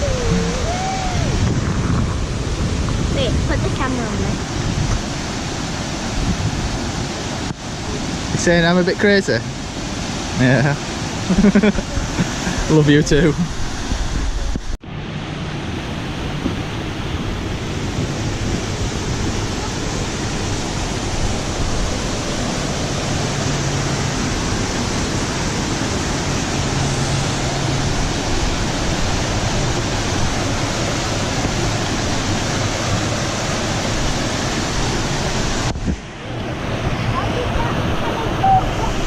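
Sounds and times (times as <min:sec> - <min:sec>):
fast-flowing river rushing: 0:00.0 - 0:39.0.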